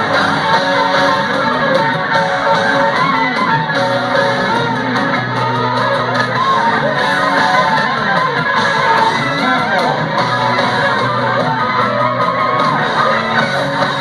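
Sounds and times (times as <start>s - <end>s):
crowd shouting: 0.0s - 14.0s
electric guitars bending pitch: 0.0s - 14.0s
live rock band playing: 0.0s - 14.0s.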